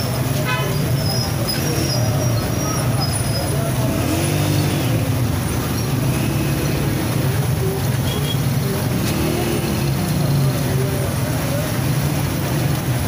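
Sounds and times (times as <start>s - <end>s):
faint voices: 0.0s - 13.0s
street traffic rumble: 0.0s - 13.0s.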